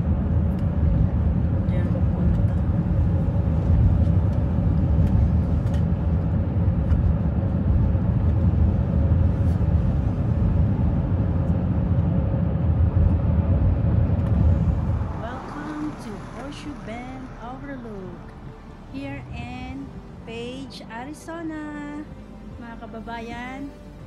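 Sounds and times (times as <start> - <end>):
car tyres and engine rumble: 0.0 - 24.0.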